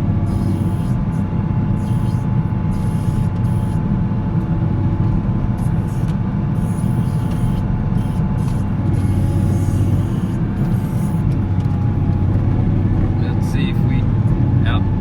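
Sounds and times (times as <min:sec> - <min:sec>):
diesel engine rumbling: 0:00.0 - 0:15.0
faint steady whine: 0:00.0 - 0:15.0.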